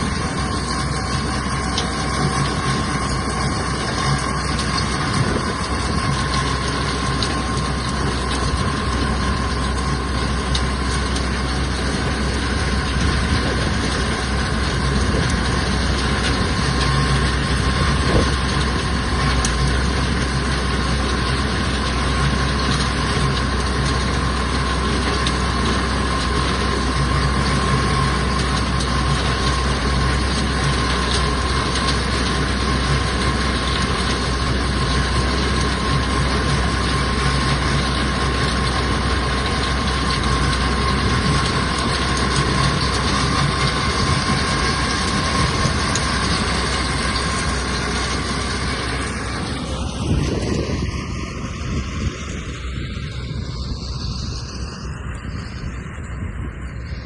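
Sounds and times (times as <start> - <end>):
machinery whine: 0.0 - 57.0
tractor engine running: 0.0 - 57.0.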